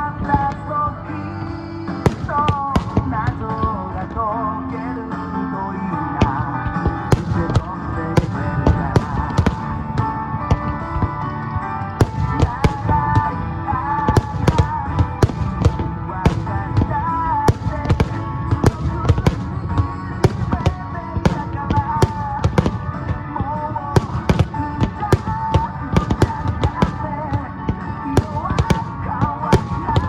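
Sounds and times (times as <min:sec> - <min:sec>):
aerial fireworks bursting: 0:02.0 - 0:03.8, 0:06.8 - 0:11.3, 0:12.0 - 0:30.0.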